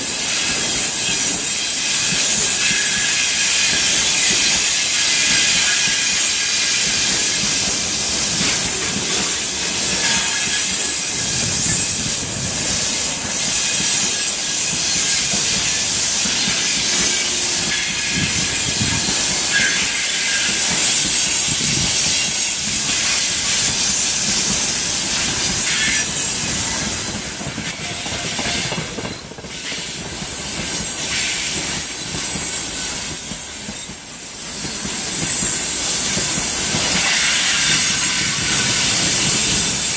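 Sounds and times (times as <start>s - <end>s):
thin high-pitched whine: 0.0s - 39.9s
train wheels rushing on rail: 0.0s - 39.9s.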